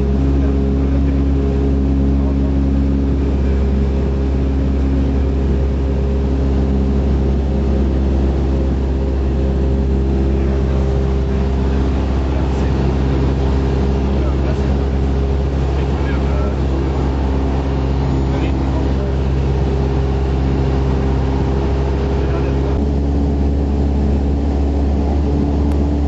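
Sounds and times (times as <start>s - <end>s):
airplane engine droning: 0.0s - 26.0s.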